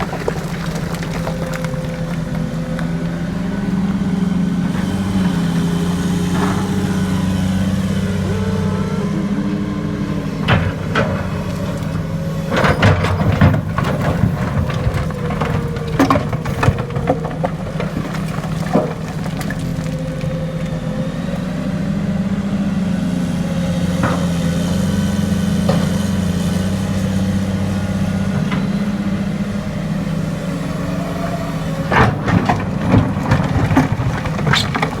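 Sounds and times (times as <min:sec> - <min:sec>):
excavator diesel engine: 0:00.0 - 0:35.0.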